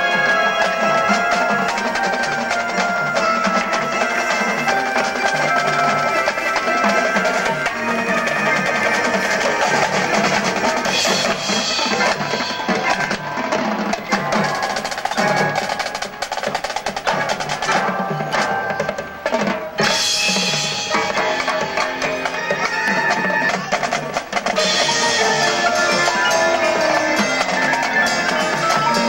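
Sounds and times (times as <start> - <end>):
mallet keyboards: 0.0 - 29.0
snare drum rolls: 0.0 - 29.0.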